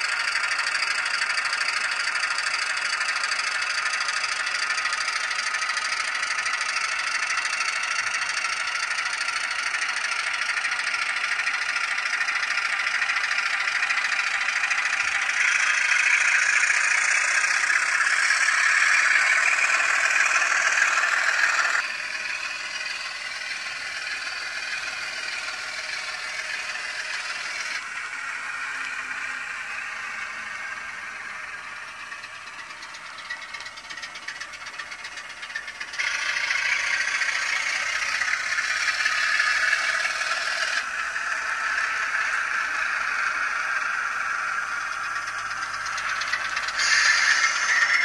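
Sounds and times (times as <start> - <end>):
model locomotive diesel engine sound: 0.0 - 48.0.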